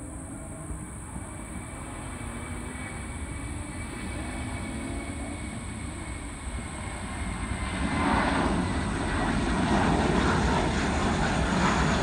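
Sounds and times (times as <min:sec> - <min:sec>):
jet engines roaring at takeoff: 0:00.0 - 0:12.0.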